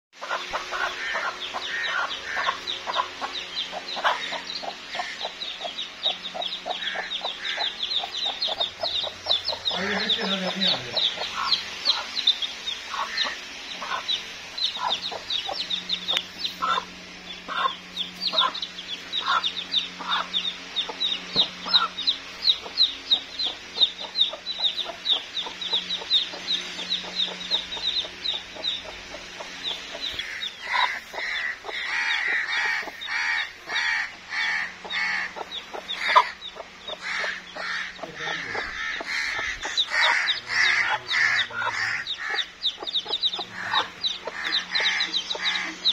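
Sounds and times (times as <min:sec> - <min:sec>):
chicks peeping: 0:00.2 - 0:45.9
hen clucking: 0:00.2 - 0:45.9.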